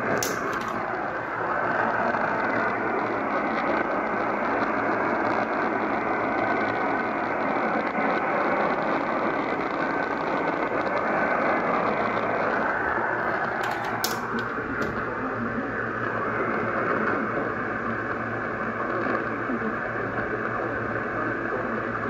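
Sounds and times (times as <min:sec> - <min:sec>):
radio static hiss: 0:00.0 - 0:22.0
sharp static crackles: 0:00.0 - 0:22.0.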